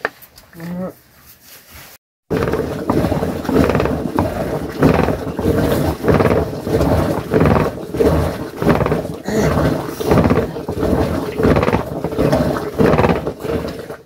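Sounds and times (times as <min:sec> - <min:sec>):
churning stick swishing in milk: 0:01.4 - 0:14.0.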